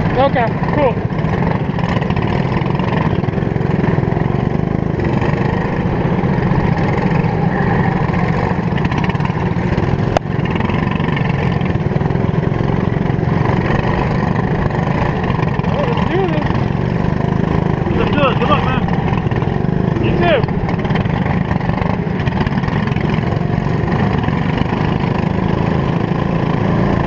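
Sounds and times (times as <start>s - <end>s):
kart engines running: 0.0s - 27.0s.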